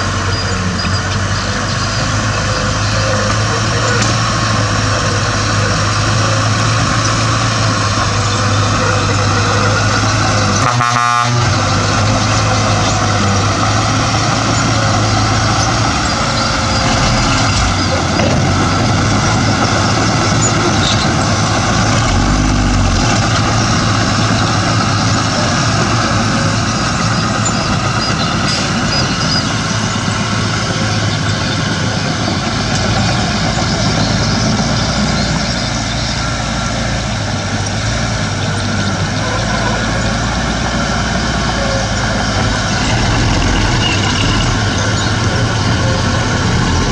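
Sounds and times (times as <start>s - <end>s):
diesel earthmoving machinery running: 0.0s - 46.9s.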